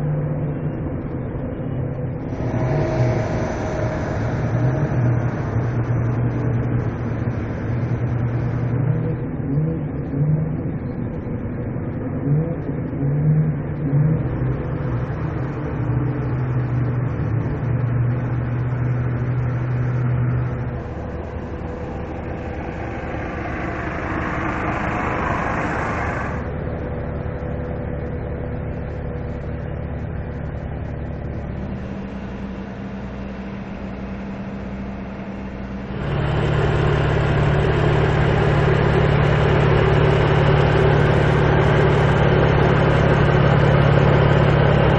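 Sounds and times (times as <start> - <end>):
car engine and exhaust driving: 0.0 - 44.9.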